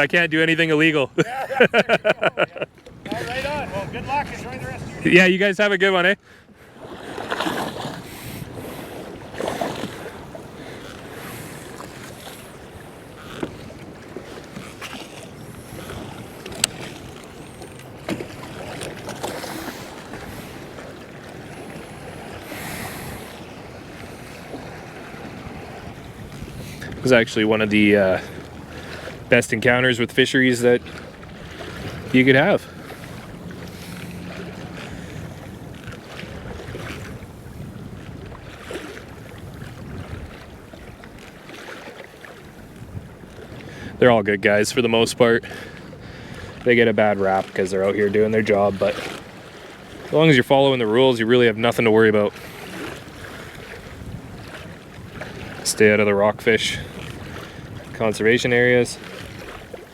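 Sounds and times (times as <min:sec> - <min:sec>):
sea water sloshing against hull: 0:00.0 - 0:59.9
wind: 0:00.0 - 0:59.9.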